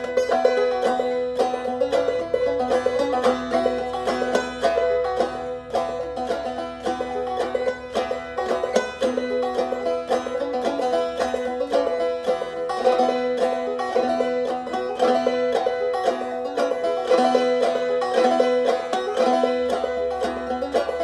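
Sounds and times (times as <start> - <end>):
banjo playing blues: 0.0 - 21.0.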